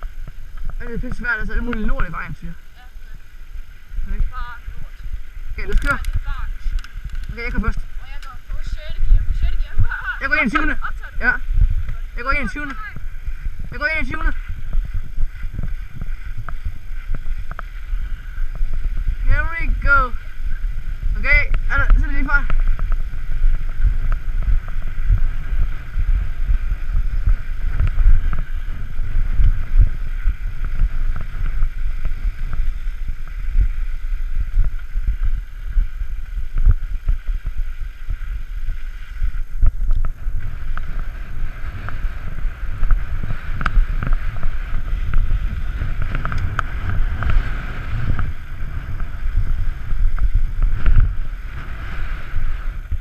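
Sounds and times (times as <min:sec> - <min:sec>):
bicycle rumble: 0:00.0 - 0:53.0
wind buffeting microphone: 0:00.0 - 0:53.0.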